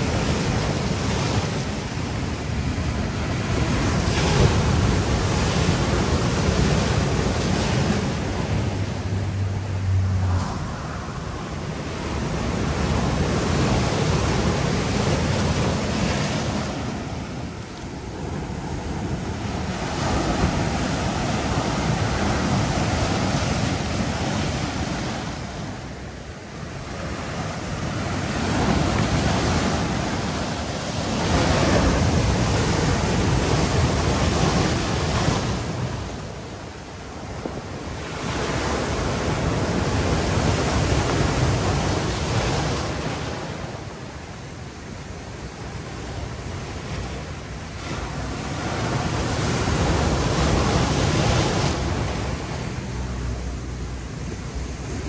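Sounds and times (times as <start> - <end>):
waves breaking over rocks: 0.0 - 55.0.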